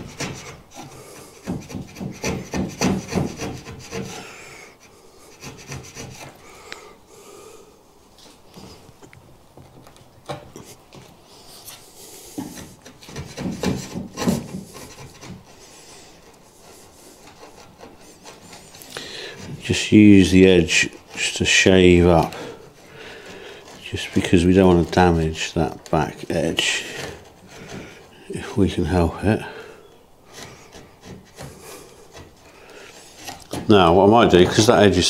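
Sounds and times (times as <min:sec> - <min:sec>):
chisel scraping wood shavings: 0:00.0 - 0:06.5, 0:10.6 - 0:35.0.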